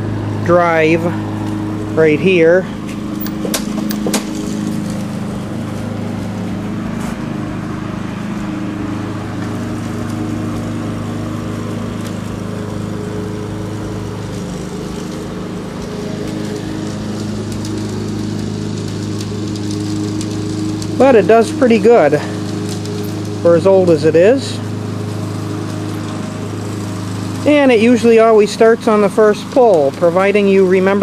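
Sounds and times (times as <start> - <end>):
snowblower engine running: 0.0 - 31.0.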